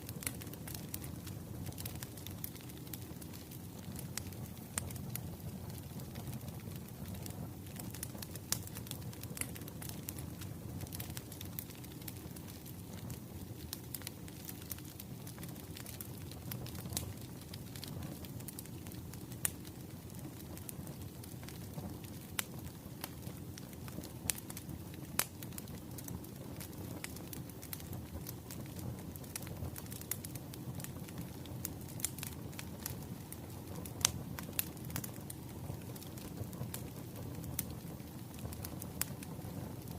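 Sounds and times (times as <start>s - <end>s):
flame rumble: 0.0s - 39.9s
wood fire crackling: 0.0s - 39.9s.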